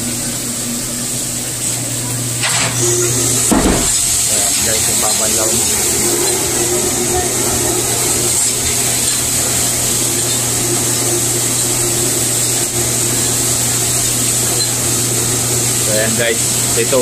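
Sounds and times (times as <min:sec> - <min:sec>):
dishwasher humming: 0:00.0 - 0:17.0
water spraying inside dishwasher: 0:00.0 - 0:17.0.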